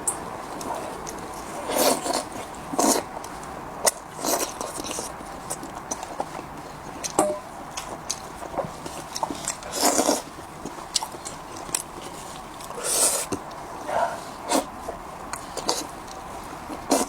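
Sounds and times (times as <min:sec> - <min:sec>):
wet chewing with mouth clicks: 0:00.0 - 0:17.0.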